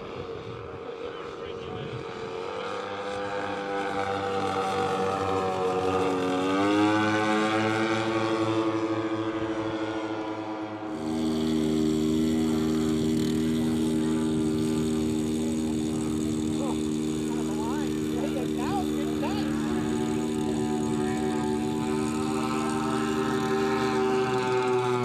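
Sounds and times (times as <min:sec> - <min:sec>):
model plane propeller engines droning: 0:00.0 - 0:25.0.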